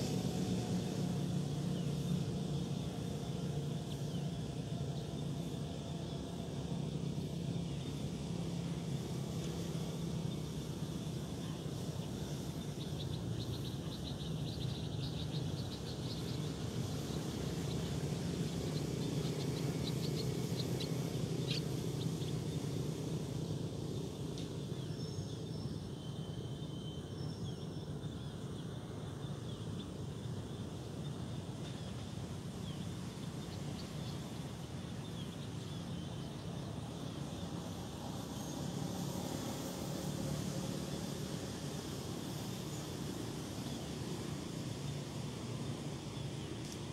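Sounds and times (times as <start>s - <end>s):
city traffic rumble: 0.0s - 46.9s
small birds chirping: 0.5s - 46.9s.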